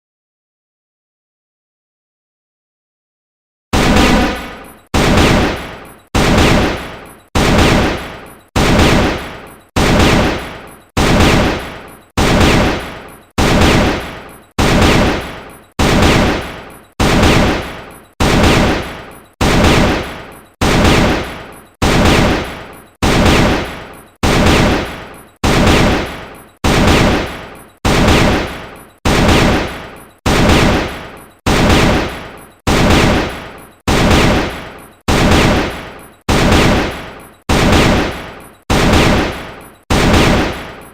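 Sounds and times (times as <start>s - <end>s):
rifle gunshots with ringing tail: 3.8s - 40.9s.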